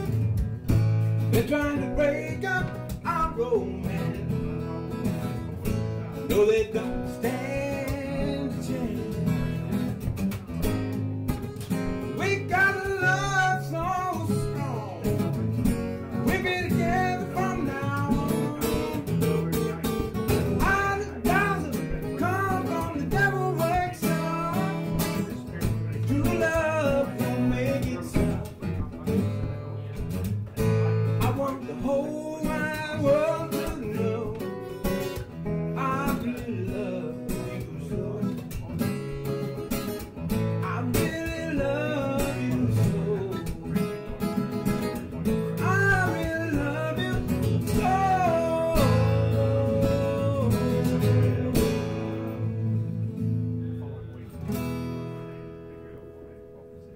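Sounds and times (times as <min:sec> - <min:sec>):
acoustic guitar blues strumming: 0:00.0 - 0:56.9.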